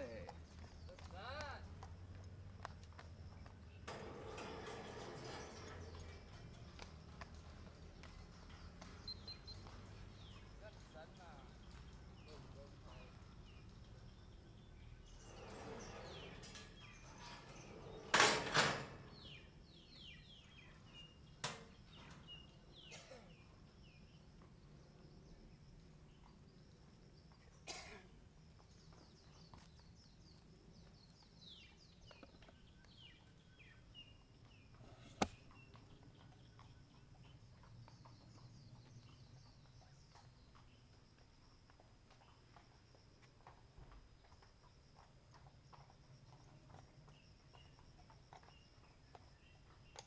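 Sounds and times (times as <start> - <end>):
small birds chirping: 3.2 - 18.2, 18.9 - 42.6, 46.0 - 50.0.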